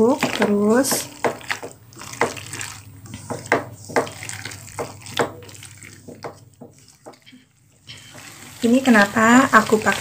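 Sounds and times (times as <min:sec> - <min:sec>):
spatula squelching and scraping pan: 0:00.0 - 0:10.0.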